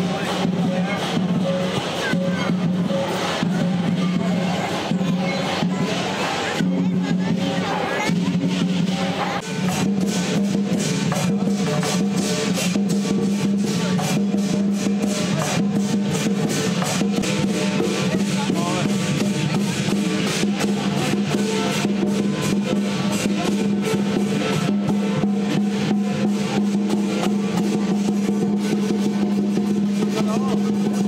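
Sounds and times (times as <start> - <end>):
cymbals crashing: 0.0 - 31.0
large drum beaten fast: 0.0 - 31.0.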